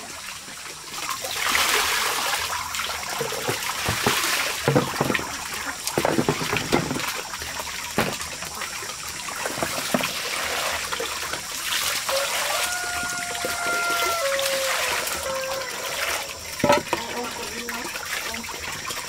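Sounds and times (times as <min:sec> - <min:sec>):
running water: 0:00.0 - 0:19.0
water splashing into basin: 0:00.0 - 0:19.0.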